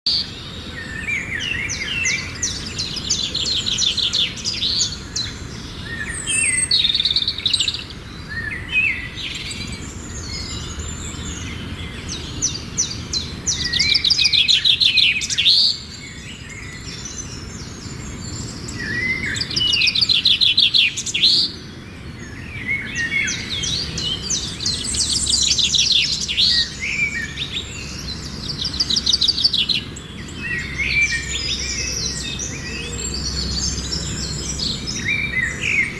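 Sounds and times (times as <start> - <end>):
songbirds trilling: 0.1 - 35.9.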